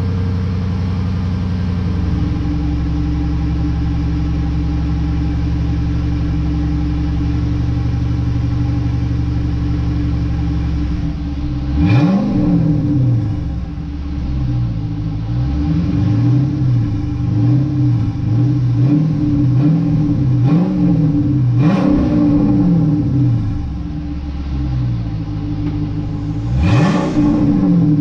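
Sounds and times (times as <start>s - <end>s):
car engine idling: 0.0s - 28.0s
engine throttle blips: 0.0s - 28.0s.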